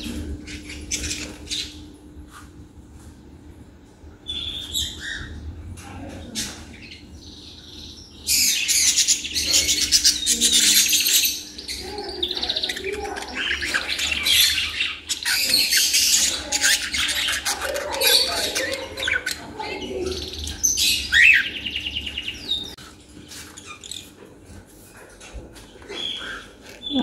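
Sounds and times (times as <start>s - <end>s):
budgerigars chirping and chattering: 0.0s - 1.9s, 4.2s - 24.3s, 25.3s - 27.0s.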